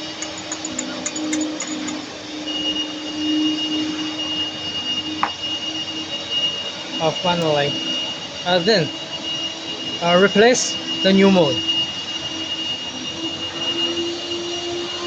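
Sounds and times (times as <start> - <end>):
high thin whine: 0.0 - 15.0
rising squeak: 0.0 - 15.0
workshop machinery humming: 0.0 - 15.0.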